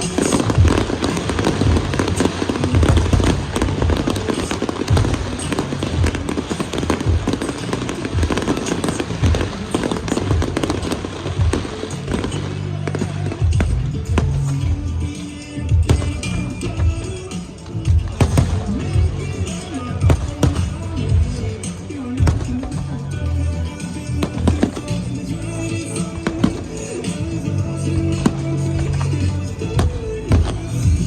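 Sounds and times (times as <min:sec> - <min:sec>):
fireworks bursting and crackling: 0:00.0 - 0:31.0
music with pulsing beat: 0:00.0 - 0:31.0.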